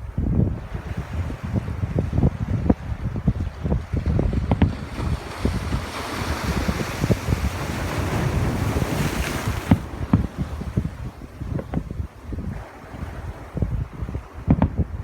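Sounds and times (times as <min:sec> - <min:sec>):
ocean waves breaking on shore: 0:00.0 - 0:15.0
wind buffeting microphone: 0:00.0 - 0:15.0.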